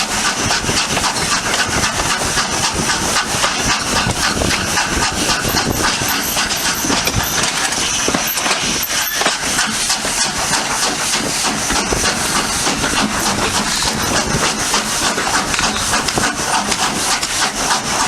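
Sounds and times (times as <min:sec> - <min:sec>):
steam hissing: 0:00.0 - 0:18.0
steam locomotive chuffing: 0:00.0 - 0:18.0.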